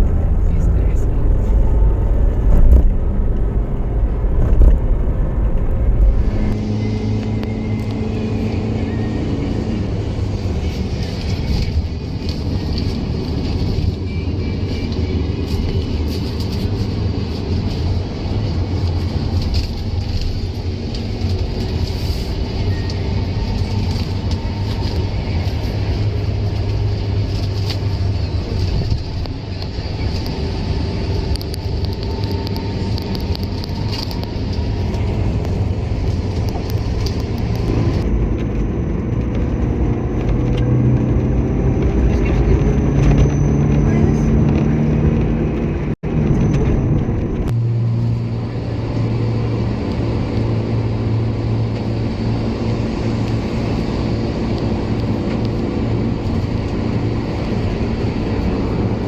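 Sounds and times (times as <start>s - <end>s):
car engine: 0.0s - 59.0s
road rumble: 0.0s - 59.0s.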